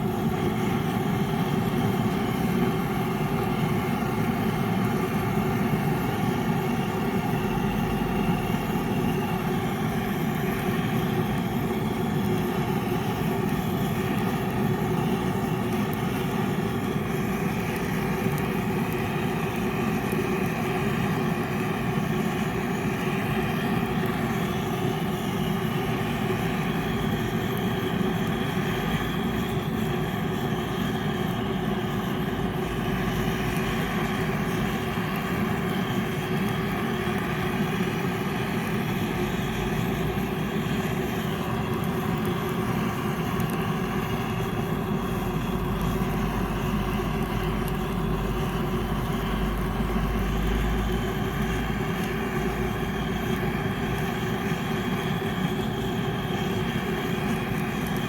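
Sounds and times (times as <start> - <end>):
gas torch flame rushing: 0.0 - 58.0.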